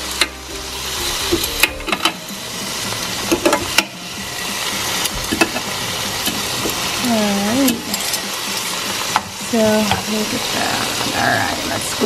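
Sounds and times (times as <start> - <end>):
steak sizzling on grill: 0.0 - 12.0.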